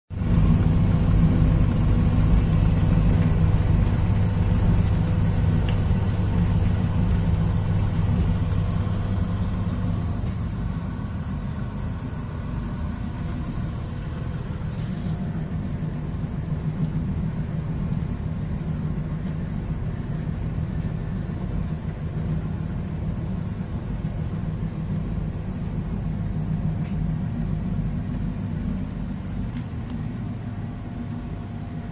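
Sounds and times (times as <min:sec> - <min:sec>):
tumble dryer motor humming: 0:00.1 - 0:31.9.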